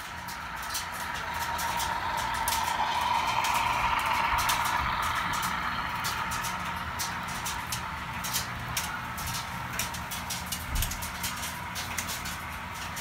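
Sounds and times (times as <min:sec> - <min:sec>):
model train wheels clicking: 0:00.0 - 0:13.0.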